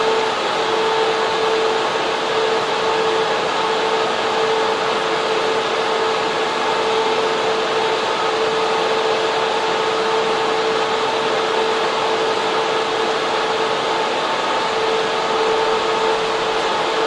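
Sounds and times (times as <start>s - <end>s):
constant whining hum: 0.0s - 17.0s
server cooling fans rushing: 0.0s - 17.0s.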